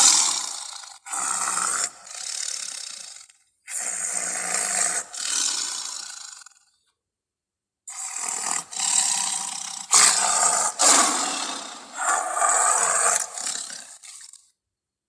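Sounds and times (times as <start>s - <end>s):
harsh dinosaur roars: 0.0s - 6.6s, 7.9s - 14.4s.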